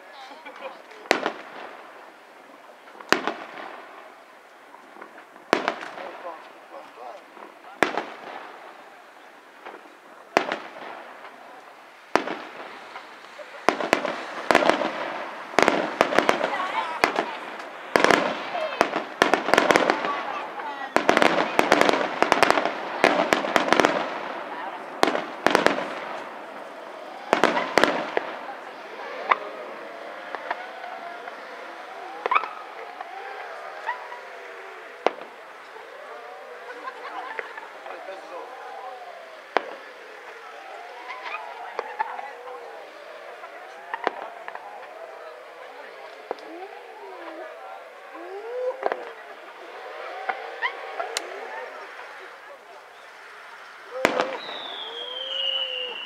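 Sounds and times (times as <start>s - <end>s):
fireworks bursting: 0.0s - 56.0s
rolling echo: 0.0s - 56.0s.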